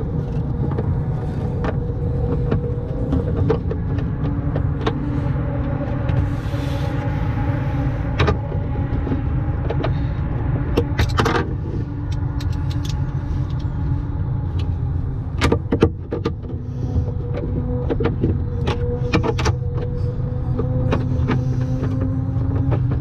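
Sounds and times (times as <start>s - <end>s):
low rumbling hum: 0.0s - 23.0s.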